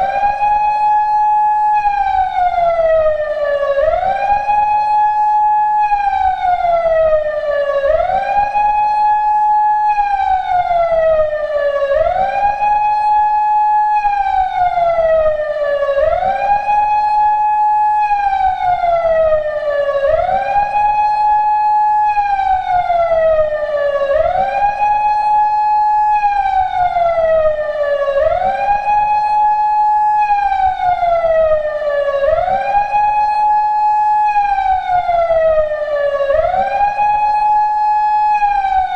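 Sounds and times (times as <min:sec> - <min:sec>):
electronic siren wailing: 0:00.0 - 0:38.9.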